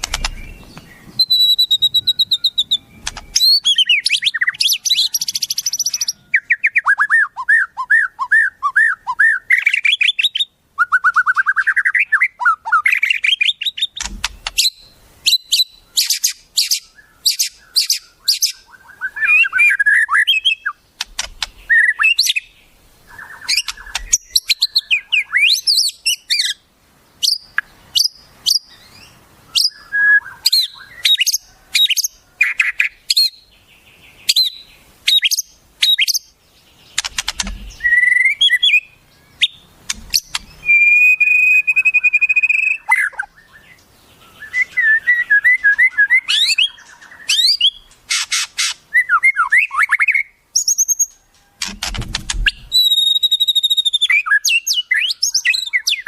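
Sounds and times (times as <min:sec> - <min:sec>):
songbird chirps and trills: 0:00.0 - 0:56.0.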